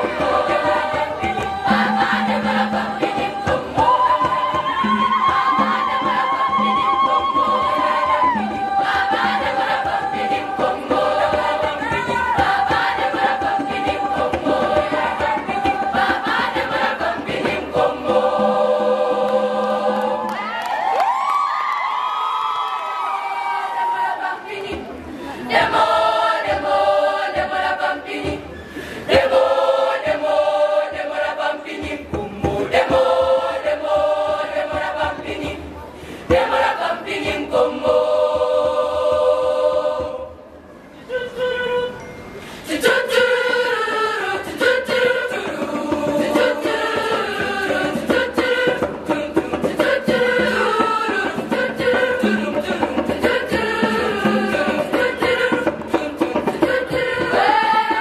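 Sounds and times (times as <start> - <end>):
girls' choir singing in harmony: 0.0 - 21.3, 23.0 - 58.0.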